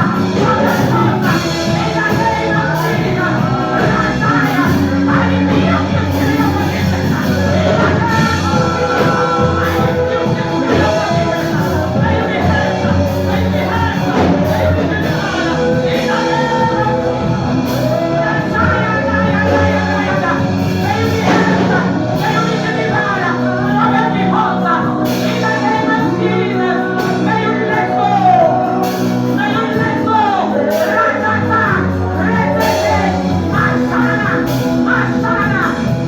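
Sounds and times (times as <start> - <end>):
gospel singing with accompaniment: 0.0 - 36.0.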